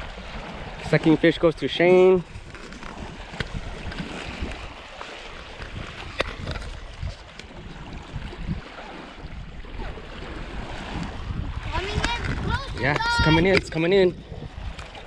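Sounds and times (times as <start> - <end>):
waves lapping on rocky shore: 0.0 - 15.0
wind buffeting microphone: 0.0 - 15.0.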